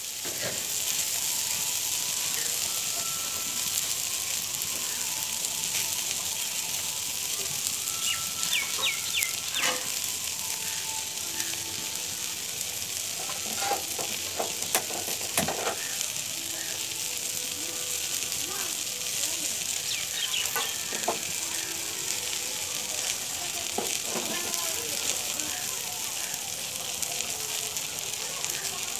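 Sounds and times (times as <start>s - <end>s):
vegetables sizzling in a wok: 0.0s - 28.9s.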